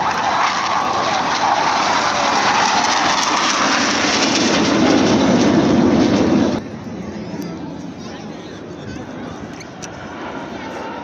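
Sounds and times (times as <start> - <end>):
jet aircraft roaring past: 0.0 - 11.0.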